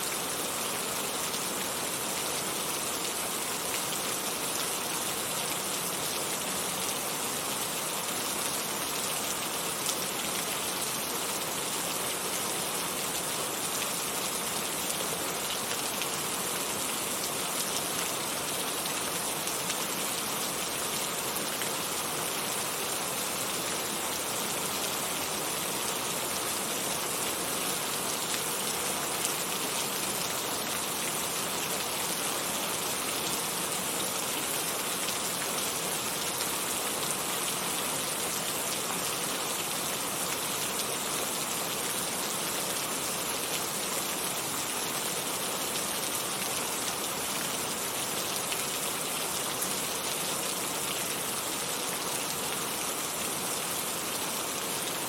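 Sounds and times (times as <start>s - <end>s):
rain patter on a surface: 0.0s - 55.0s.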